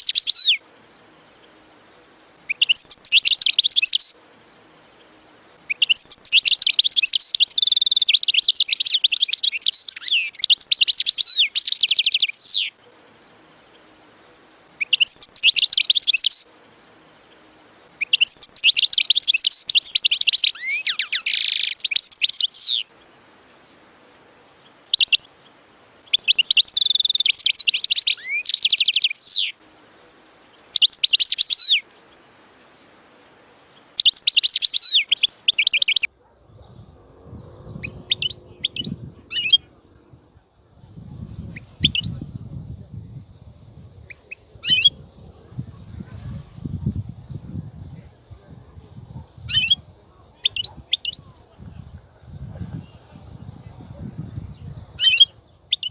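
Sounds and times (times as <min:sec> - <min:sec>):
bird twittering and trills: 0:00.0 - 0:55.9.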